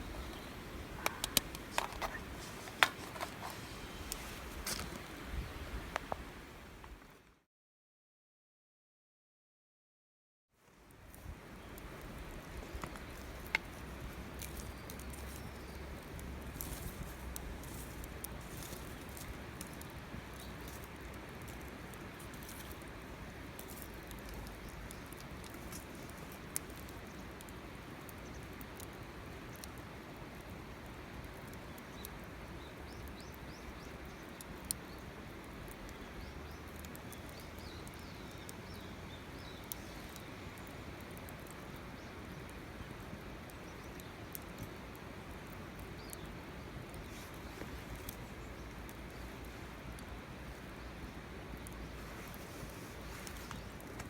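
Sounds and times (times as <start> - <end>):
wood fire crackling: 0.0 - 7.2, 10.8 - 54.0
low background noise: 0.0 - 7.4, 10.6 - 54.0.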